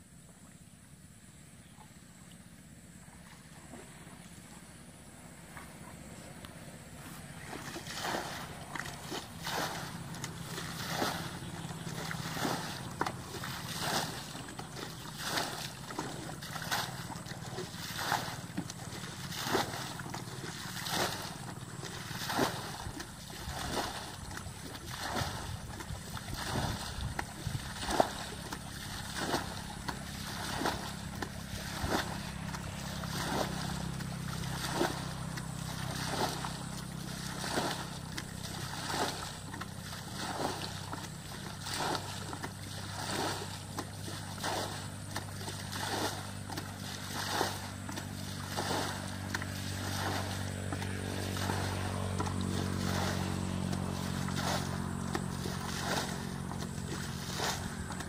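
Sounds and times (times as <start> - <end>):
steady low hum: 0.0 - 58.0
water scooped and poured splashing: 7.4 - 58.0.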